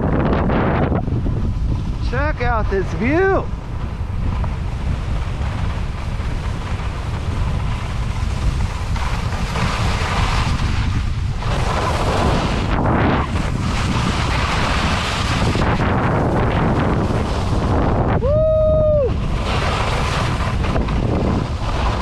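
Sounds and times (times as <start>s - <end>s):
wind buffeting microphone: 0.0s - 22.0s
skis sliding on snow: 1.4s - 22.0s.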